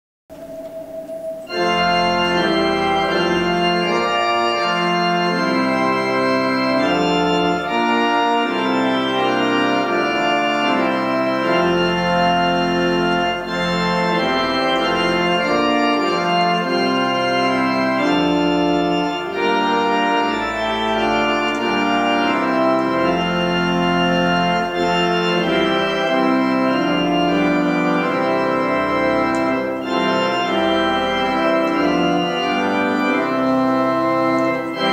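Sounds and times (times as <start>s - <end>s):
deep organ bass notes: 0.3s - 34.9s
organ playing hymn chords: 0.3s - 34.9s.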